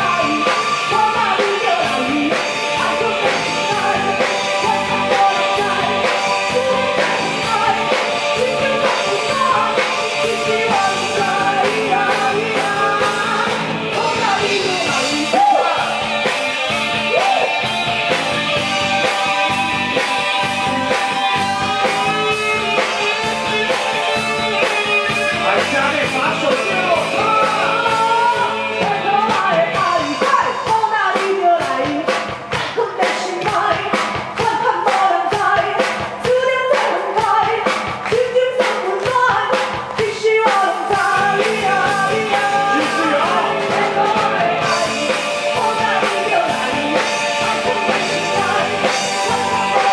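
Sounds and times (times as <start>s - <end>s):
rock song with singer: 0.0s - 49.9s
steady drum beat: 0.0s - 49.9s.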